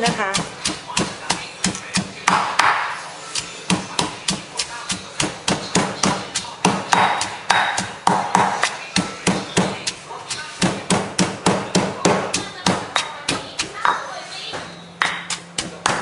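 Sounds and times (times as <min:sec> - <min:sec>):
stone pestle pounding in mortar: 0:00.0 - 0:14.1, 0:15.0 - 0:16.0.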